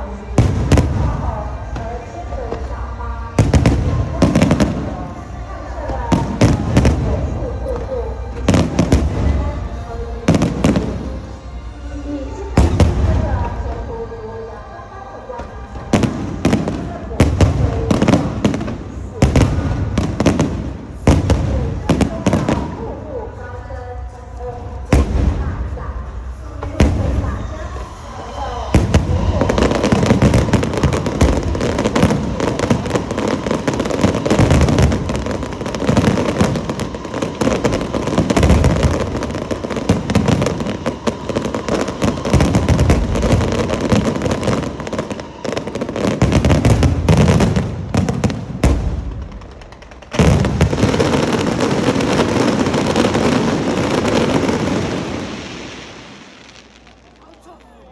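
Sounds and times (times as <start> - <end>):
fireworks booming and crackling: 0.0 - 14.1, 15.4 - 23.4, 24.0 - 57.9.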